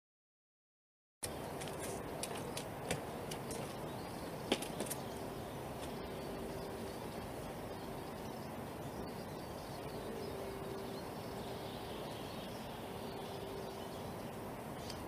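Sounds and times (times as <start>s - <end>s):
faint hum: 1.2s - 15.0s
low background noise: 1.2s - 15.0s.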